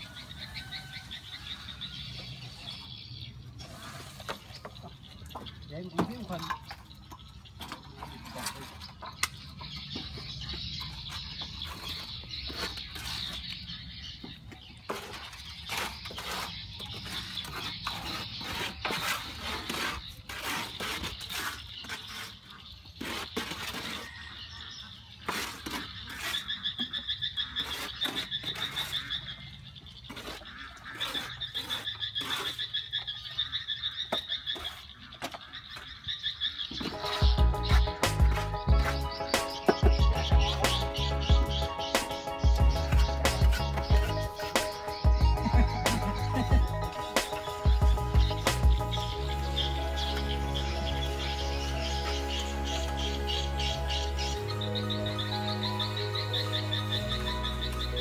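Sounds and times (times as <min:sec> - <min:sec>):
trowels scraping wet cement: 0:00.0 - 0:55.1.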